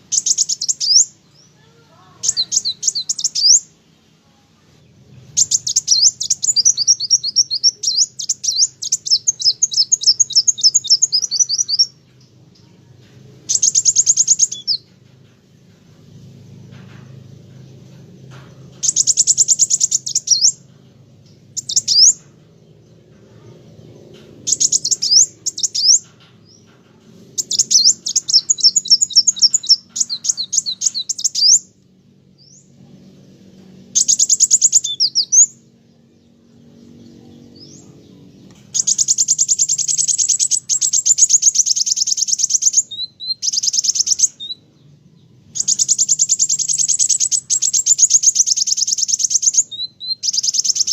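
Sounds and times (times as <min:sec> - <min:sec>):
sunbird singing high trills: 0:00.0 - 0:12.8, 0:13.4 - 0:14.9, 0:18.5 - 0:26.7, 0:27.3 - 0:31.8, 0:33.6 - 0:50.9.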